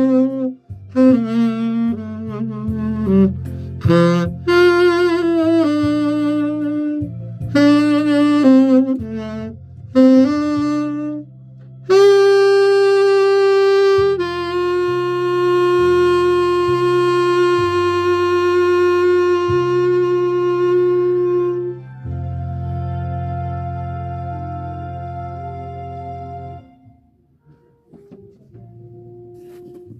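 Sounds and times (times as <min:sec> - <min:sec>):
backing track: 0:00.0 - 0:29.9
saxophone melody: 0:00.0 - 0:29.9.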